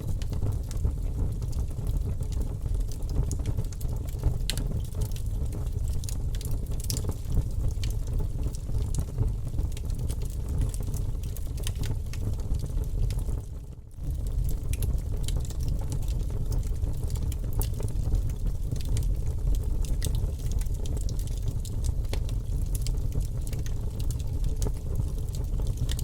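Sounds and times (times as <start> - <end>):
campfire crackling and popping: 0.1 - 26.0.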